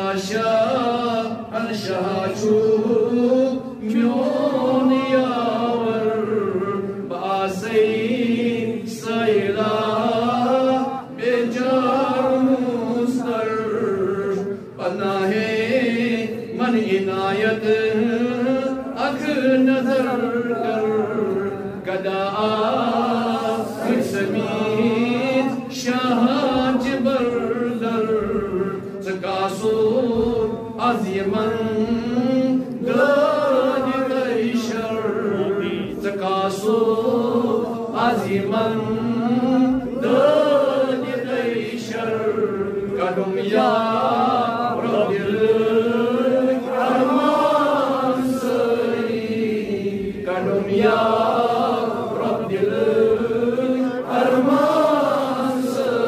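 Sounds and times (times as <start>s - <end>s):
man chanting: 0.0s - 56.0s.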